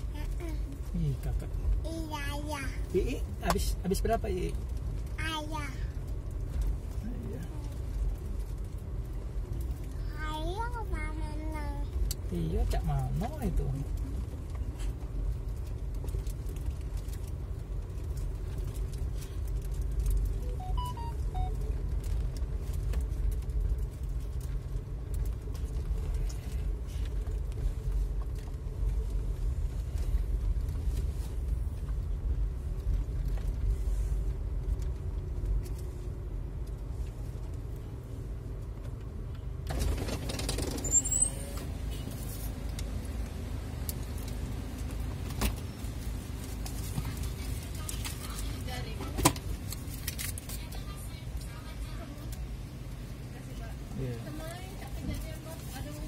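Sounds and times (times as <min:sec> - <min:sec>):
vehicle driving slowly: 0:00.0 - 0:56.0.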